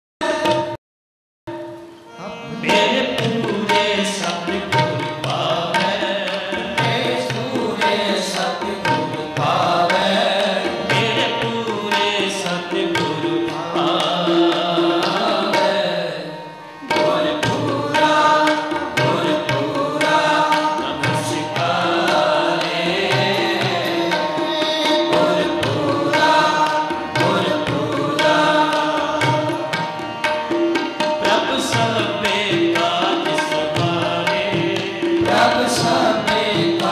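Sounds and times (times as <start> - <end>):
tabla drumming: 0.2 - 0.8, 1.5 - 36.9
harmonium playing: 1.5 - 36.9
man singing: 2.2 - 29.5, 31.2 - 36.9.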